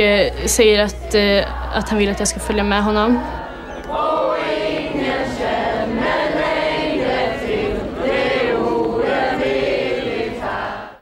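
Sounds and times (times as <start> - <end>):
crowd singing together: 0.0 - 11.0.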